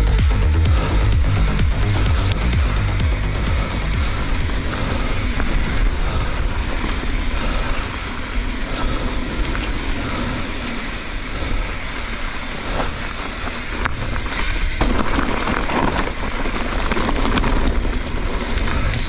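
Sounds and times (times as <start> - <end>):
bike tyres and frame rattling: 0.0 - 19.0
wind rushing over microphone: 0.6 - 19.0.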